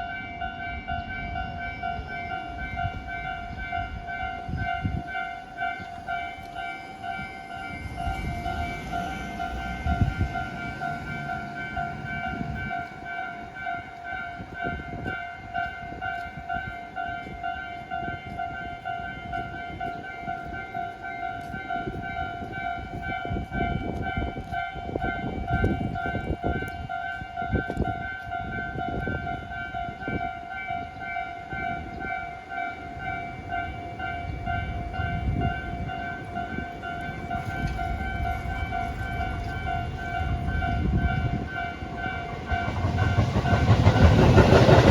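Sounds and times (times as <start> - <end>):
level crossing warning bell: 0.0 - 44.9.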